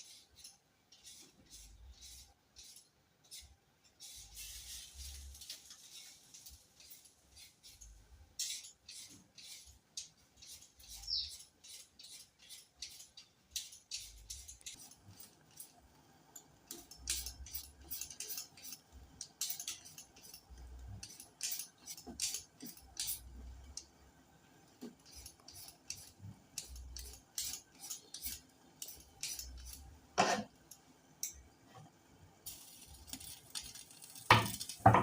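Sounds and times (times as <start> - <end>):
knife scraping and clicking: 0.0 - 4.8, 5.5 - 15.7, 16.7 - 23.9, 24.8 - 31.4.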